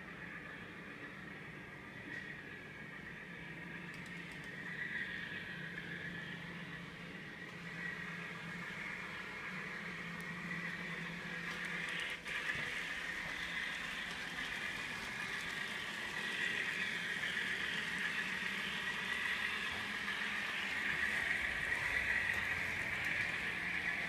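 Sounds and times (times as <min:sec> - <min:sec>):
model train running noise: 0:00.0 - 0:24.0
tinny model locomotive engine: 0:00.0 - 0:24.0.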